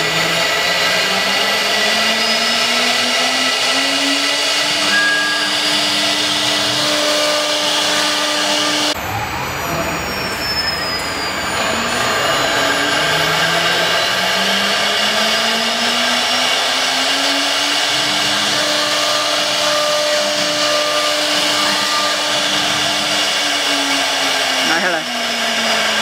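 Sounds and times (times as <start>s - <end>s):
cnc router spindle whirring: 0.0s - 26.0s.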